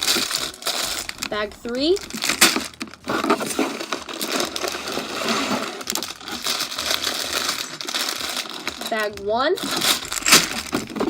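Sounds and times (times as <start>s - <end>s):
plastic bags crinkling: 0.0s - 11.0s
plastic bricks clicking and rattling: 0.0s - 11.0s.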